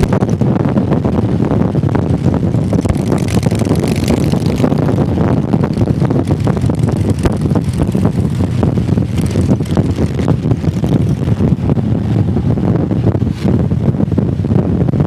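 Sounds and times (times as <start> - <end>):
motorcycle engine rumbling: 0.0 - 15.0
wind buffeting microphone: 0.0 - 15.0.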